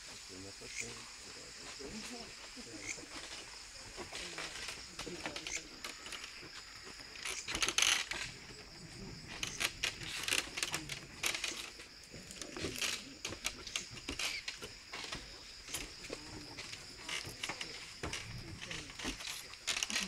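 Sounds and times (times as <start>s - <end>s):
insects ringing: 0.1s - 20.0s
close rustles and clicks: 1.9s - 20.0s.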